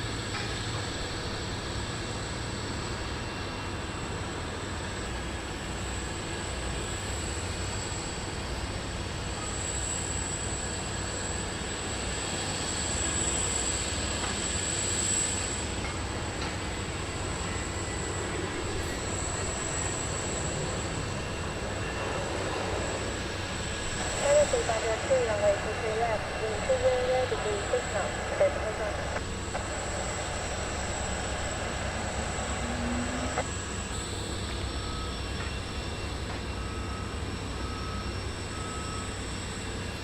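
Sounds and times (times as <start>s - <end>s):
jet engine rumble and whine: 0.0s - 40.0s.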